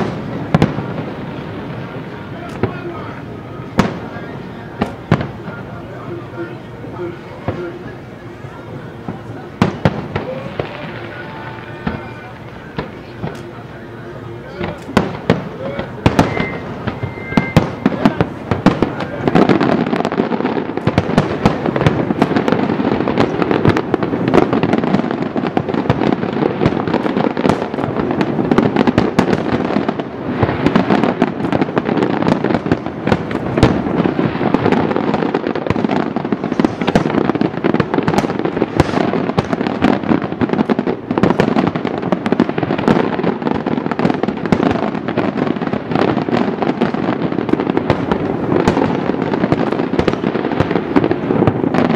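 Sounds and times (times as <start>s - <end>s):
fireworks booming: 0.0s - 51.9s
fireworks crackling: 0.0s - 51.9s.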